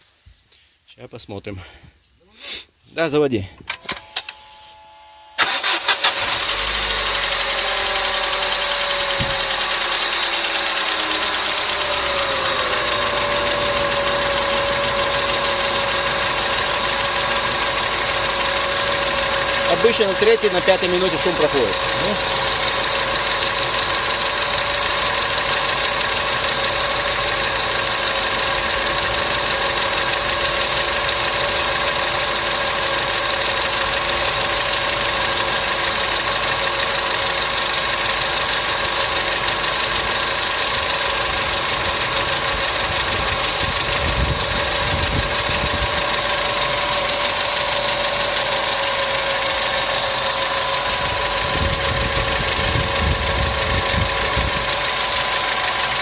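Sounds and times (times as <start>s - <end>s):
car engine idling: 5.4s - 56.0s
fast valve train ticking: 7.5s - 56.0s.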